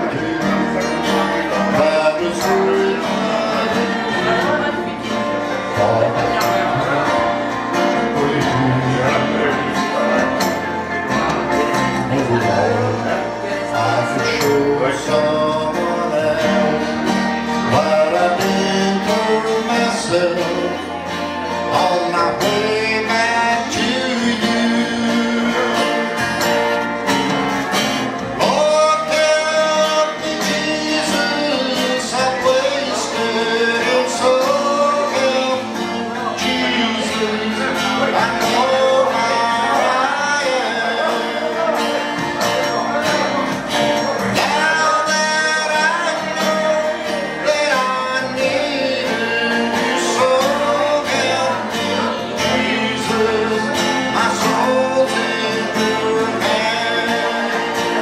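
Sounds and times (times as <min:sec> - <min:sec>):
acoustic guitar: 0:00.0 - 0:58.0
man singing a slow country song: 0:00.0 - 0:58.0.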